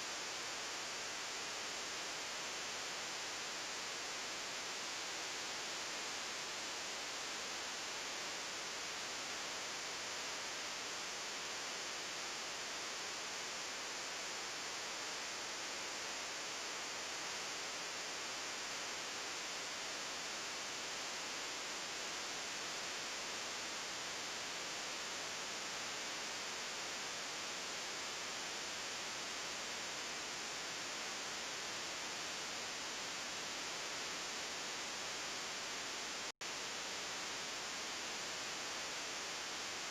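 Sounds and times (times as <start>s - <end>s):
recording hiss: 0.0s - 39.9s.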